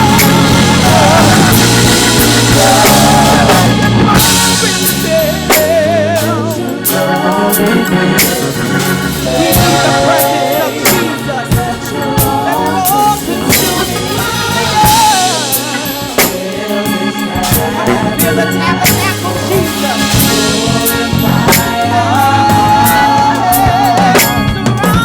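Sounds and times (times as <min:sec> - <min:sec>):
bass: 0:00.0 - 0:25.0
drum kit: 0:00.0 - 0:25.0
organ chords with vibrato: 0:00.0 - 0:25.0.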